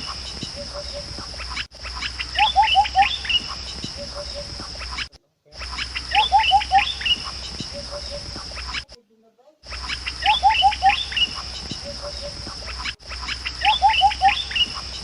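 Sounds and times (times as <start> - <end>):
bird whistling rising notes: 0.0 - 8.9, 9.7 - 15.0
high insect drone: 0.0 - 8.9, 9.7 - 15.0.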